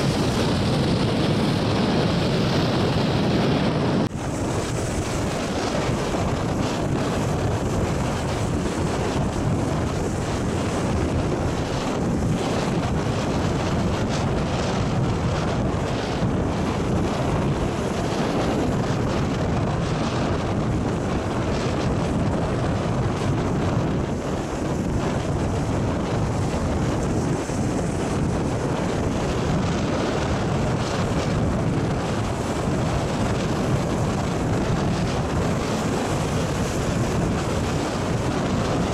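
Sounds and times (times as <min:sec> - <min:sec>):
waves breaking against rocks: 0:00.0 - 0:38.9
wind buffeting microphone: 0:00.0 - 0:38.9.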